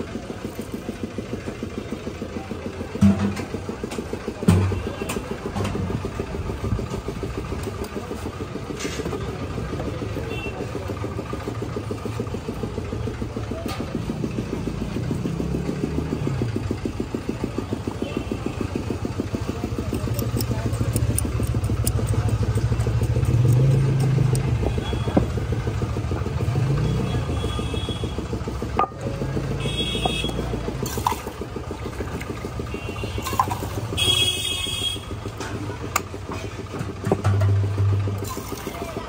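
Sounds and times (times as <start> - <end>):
engine idling: 0.0 - 39.0.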